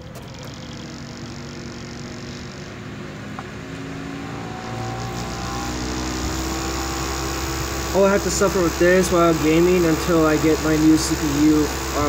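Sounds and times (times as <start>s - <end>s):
computer fan whirring with low hum: 0.0s - 12.0s.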